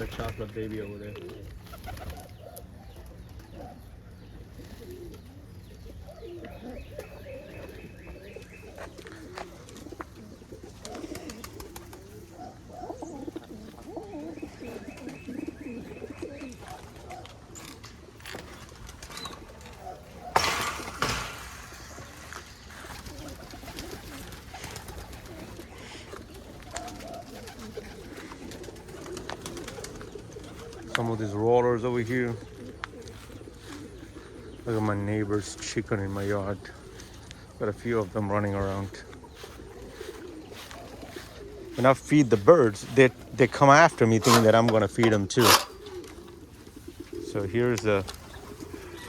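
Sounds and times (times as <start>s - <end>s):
pigeons cooing: 0.0s - 49.0s.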